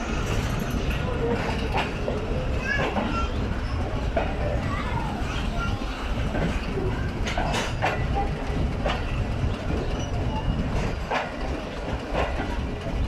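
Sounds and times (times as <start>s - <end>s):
train wheels rumbling on rail: 0.0s - 13.0s
wheels clanking over rail joints: 0.0s - 13.0s.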